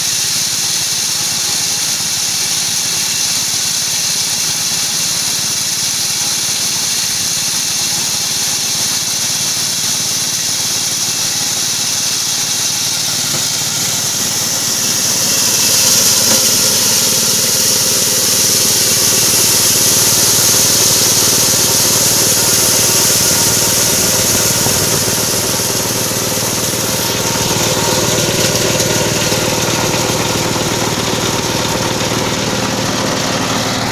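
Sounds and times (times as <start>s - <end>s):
strong hiss: 0.0s - 33.9s
grinding machine engine drone: 6.5s - 33.9s.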